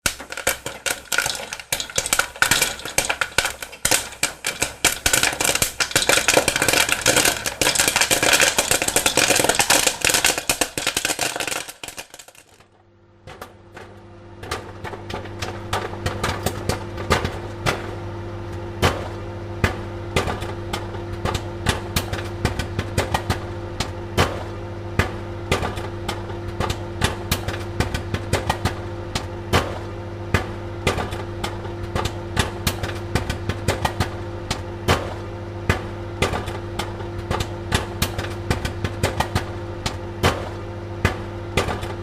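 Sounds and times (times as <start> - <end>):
popcorn popping: 0.0 - 42.0
steady hum: 0.0 - 42.0.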